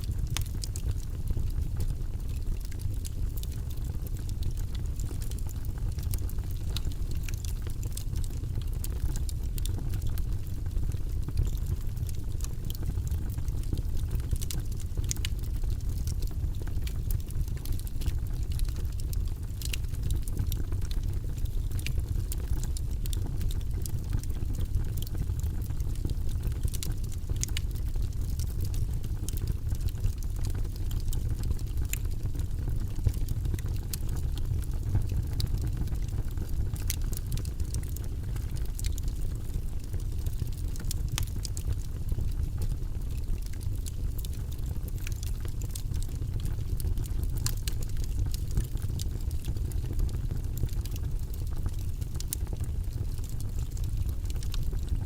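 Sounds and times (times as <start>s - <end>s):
logs crackling and popping: 0.0s - 55.0s
low rumble of flames: 0.0s - 55.0s.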